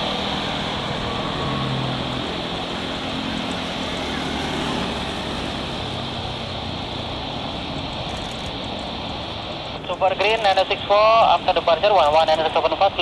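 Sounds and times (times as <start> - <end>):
distant jet engine noise: 0.0 - 13.0.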